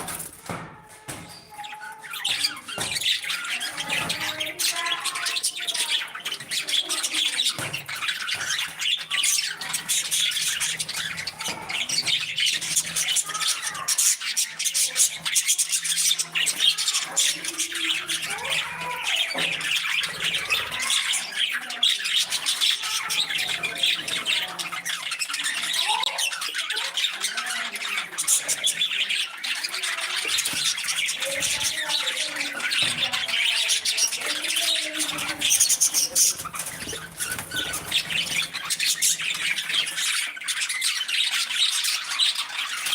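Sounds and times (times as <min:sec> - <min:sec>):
budgies chattering and warbling: 0:00.0 - 0:42.9.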